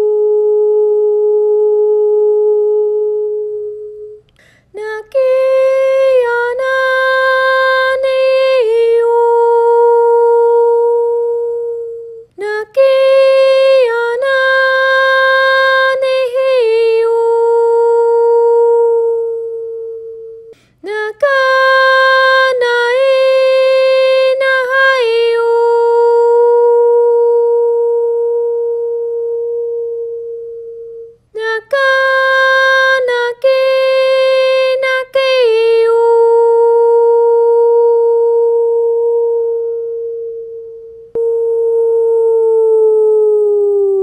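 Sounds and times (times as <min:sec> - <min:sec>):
steady pure tone: 0:00.0 - 0:44.0.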